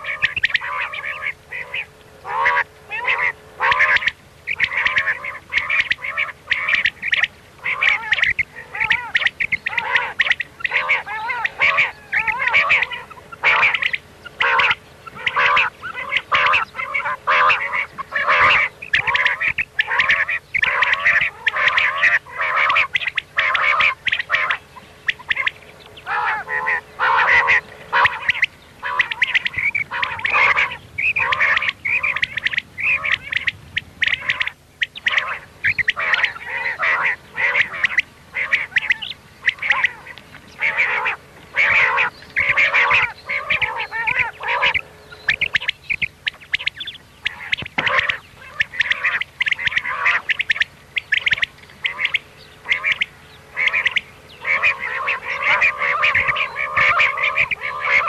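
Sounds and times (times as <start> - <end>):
quail calls: 0.0 - 58.0.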